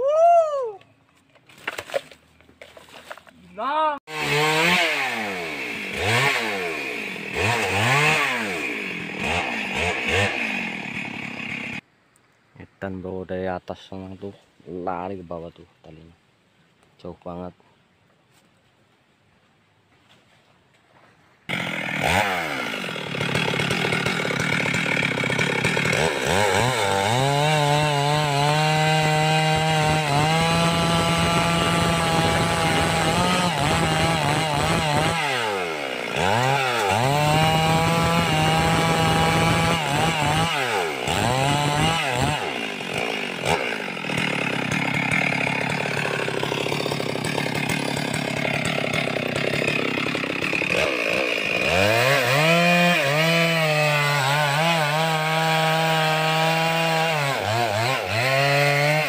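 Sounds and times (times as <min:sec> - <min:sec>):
chainsaw cutting logs: 0:01.4 - 0:11.8, 0:21.5 - 0:59.0.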